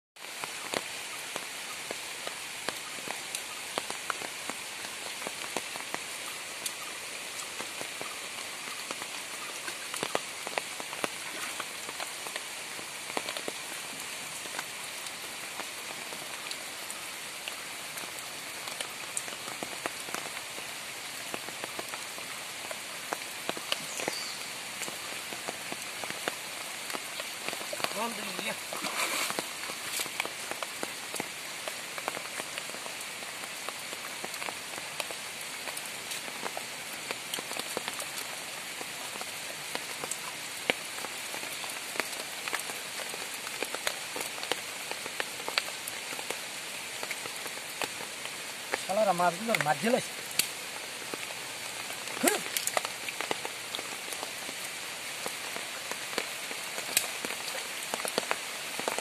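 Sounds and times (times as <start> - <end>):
rain falling on water and leaves: 0.2 - 59.0.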